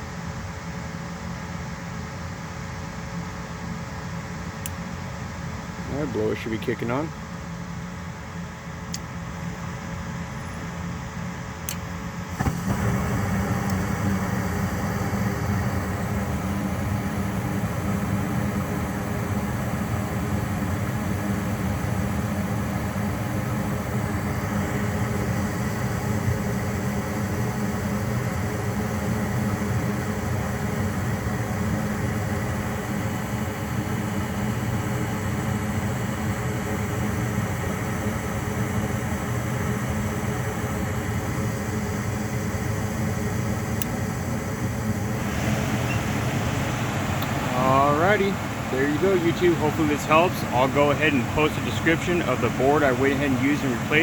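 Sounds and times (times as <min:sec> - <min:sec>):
furnace blower motor humming: 0:00.0 - 0:54.0
quiet fan running: 0:00.0 - 0:54.0.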